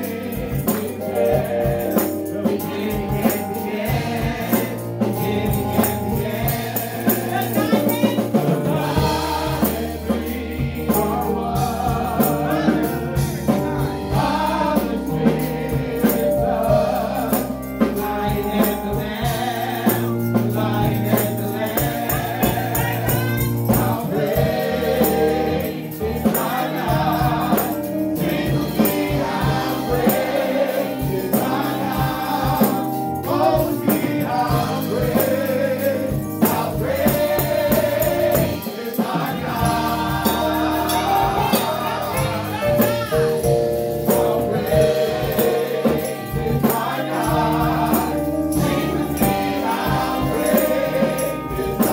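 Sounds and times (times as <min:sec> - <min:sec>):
voices singing together: 0:00.0 - 0:51.9.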